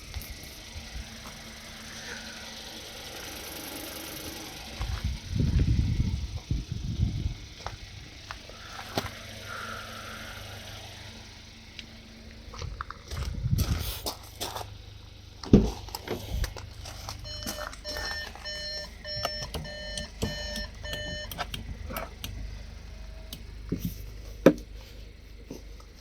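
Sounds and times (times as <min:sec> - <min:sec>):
heavy low rumbling: 0:00.0 - 0:25.9
car engine idling: 0:00.0 - 0:26.0.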